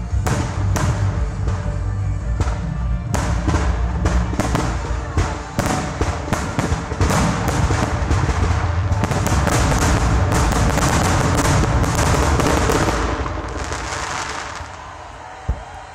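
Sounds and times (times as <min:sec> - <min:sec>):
fireworks bangs and crackles: 0:00.0 - 0:15.9.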